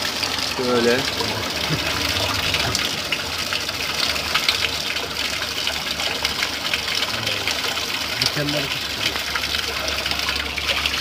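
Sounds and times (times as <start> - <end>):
water gushing: 0.0 - 11.0.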